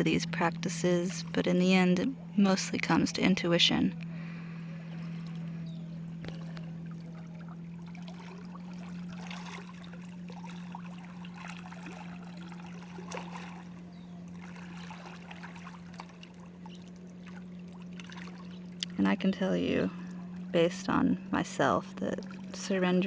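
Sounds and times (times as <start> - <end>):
steady low hum: 0.0 - 23.0
water lapping and splashing: 0.0 - 23.0.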